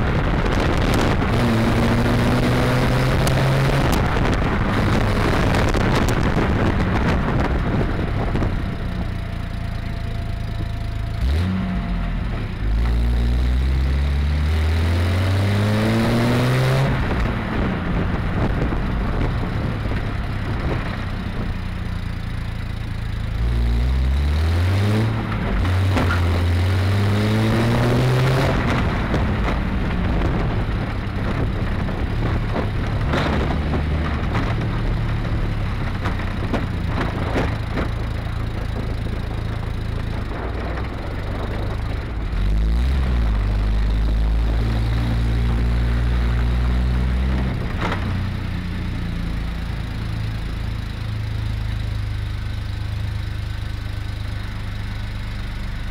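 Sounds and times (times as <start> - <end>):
car engine revving under way: 0.0 - 55.9.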